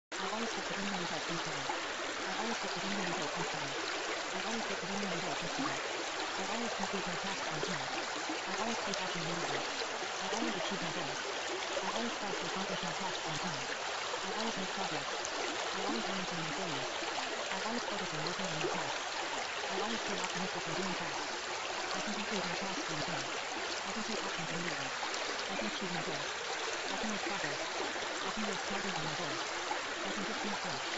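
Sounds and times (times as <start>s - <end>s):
flowing water rushing: 0.1s - 30.9s.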